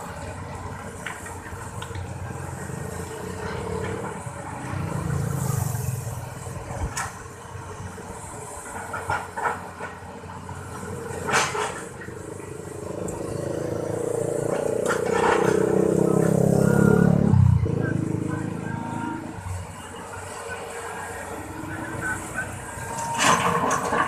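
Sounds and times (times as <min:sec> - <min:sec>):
excavator engine running: 0:00.0 - 0:24.0.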